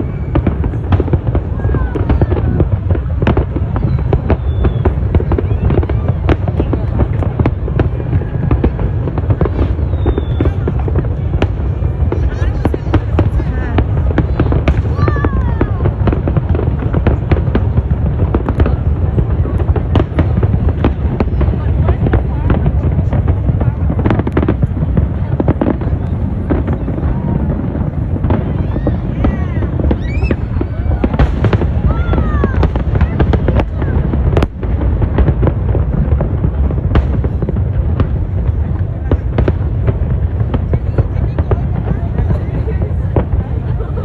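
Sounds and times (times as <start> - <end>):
continuous low rumble: 0.0 - 44.0
fireworks bangs and crackles: 0.0 - 44.0.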